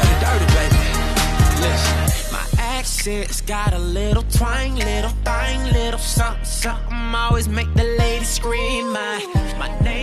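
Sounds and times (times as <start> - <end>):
hip hop beat with deep bass: 0.0 - 10.0.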